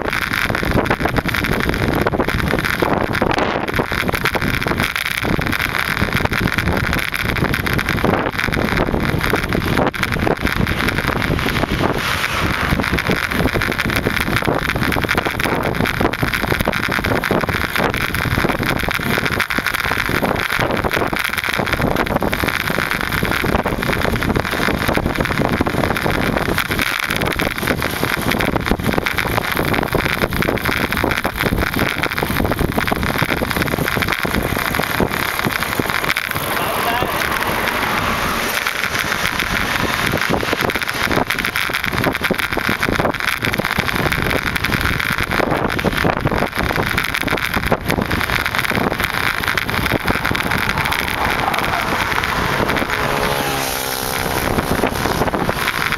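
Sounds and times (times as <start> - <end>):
road and vehicle noise: 0.0 - 55.9
wind noise on microphone: 0.0 - 55.9.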